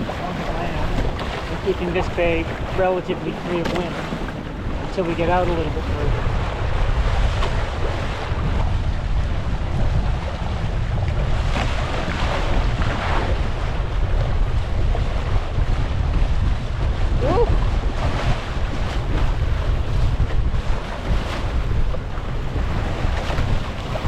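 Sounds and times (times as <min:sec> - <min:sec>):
water splashing against hull: 0:00.0 - 0:24.0
wind buffeting microphone: 0:00.0 - 0:24.0.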